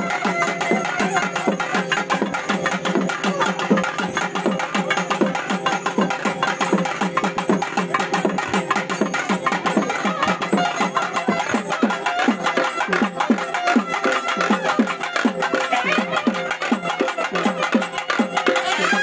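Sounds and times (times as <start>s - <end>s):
drum strokes falling in pitch: 0.0s - 19.0s.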